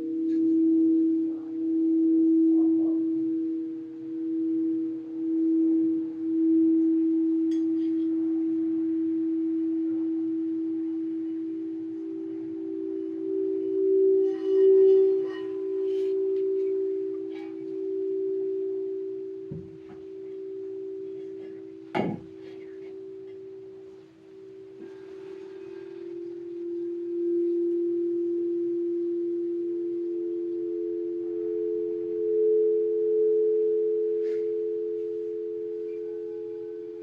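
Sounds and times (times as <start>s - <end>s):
bright high ringing: 0.0s - 37.0s
singing bowls ringing low tone: 0.0s - 37.0s.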